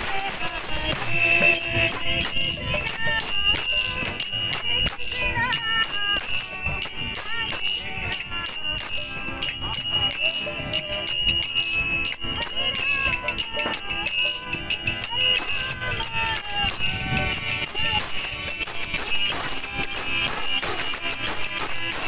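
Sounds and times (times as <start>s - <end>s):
hand cymbals ringing: 0.0s - 22.0s
voices chanting: 0.0s - 22.0s.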